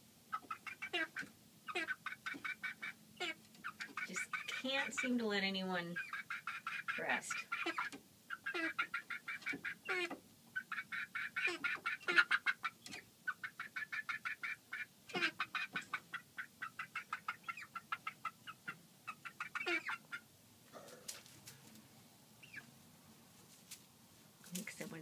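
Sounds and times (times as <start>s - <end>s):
hens clucking: 0.3s - 5.3s, 5.9s - 21.8s.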